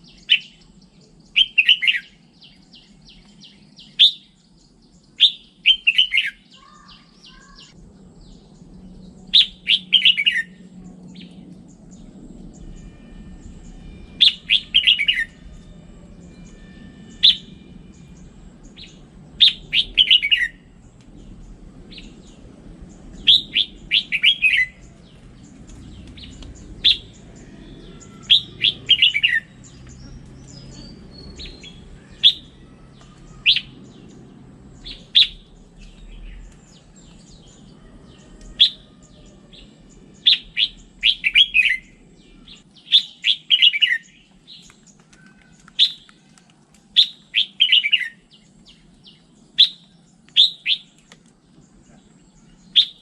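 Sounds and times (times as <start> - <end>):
bird singing: 0.0 - 53.0.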